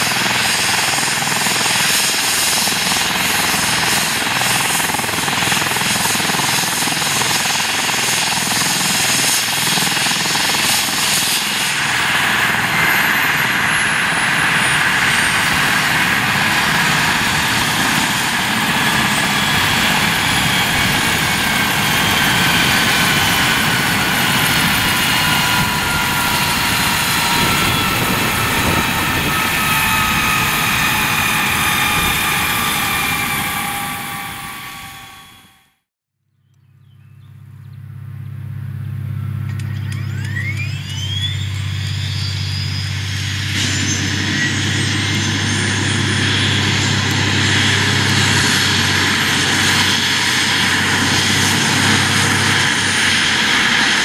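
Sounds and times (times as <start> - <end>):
helicopter engines and rotor: 0.0 - 35.9, 37.2 - 54.0
turbine whine: 0.0 - 35.9, 37.2 - 54.0.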